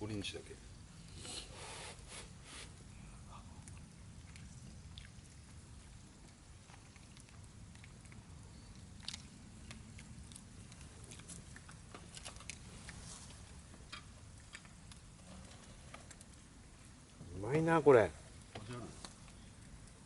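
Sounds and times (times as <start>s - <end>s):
low steady rumble: 2.7s - 20.0s.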